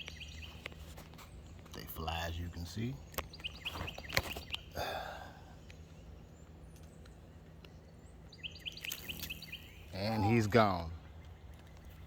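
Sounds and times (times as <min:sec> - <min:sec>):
outdoor background noise: 0:00.0 - 0:12.0
small bird chirping: 0:00.0 - 0:12.0.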